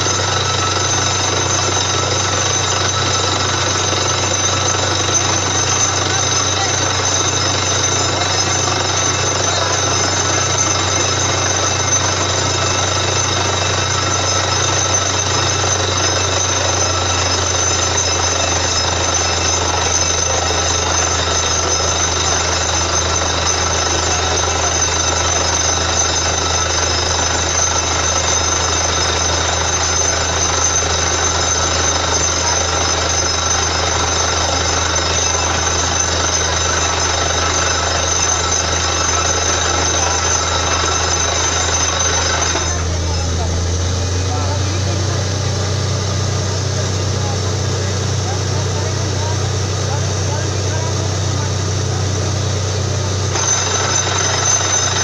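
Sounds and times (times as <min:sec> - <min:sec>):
drilling rig hammering rattle: 0:00.0 - 0:55.0
low engine drone: 0:00.0 - 0:55.0.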